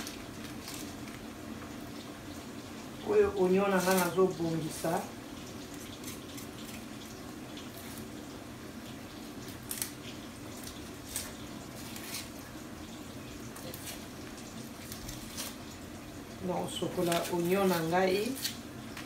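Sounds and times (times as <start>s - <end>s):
frying in oil sizzle: 0.0s - 19.0s.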